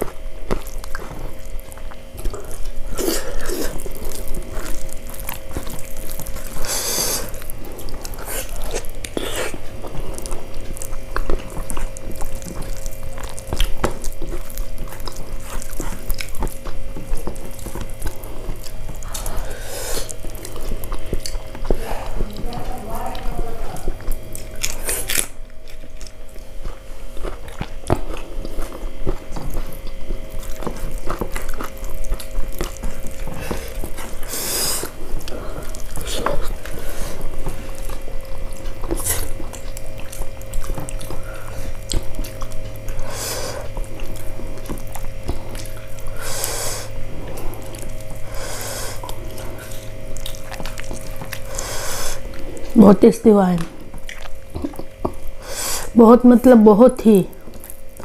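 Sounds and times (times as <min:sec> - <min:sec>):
chewing and lip-smacking: 0:00.0 - 0:58.0
low hum: 0:00.0 - 0:58.0.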